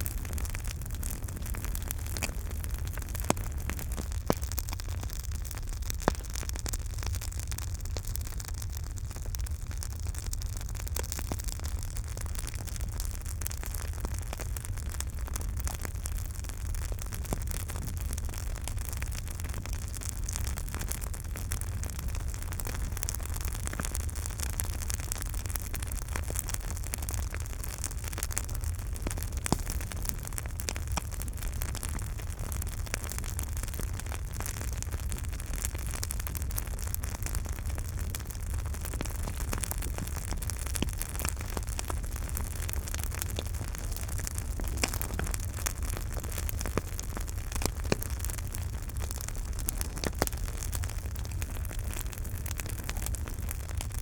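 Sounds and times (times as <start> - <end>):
low rumble of flames: 0.0 - 54.0
wood crackling and popping: 0.0 - 54.0.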